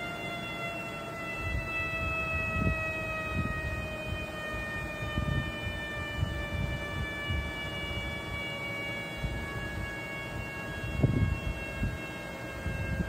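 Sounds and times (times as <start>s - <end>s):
pump whine: 0.0s - 13.0s.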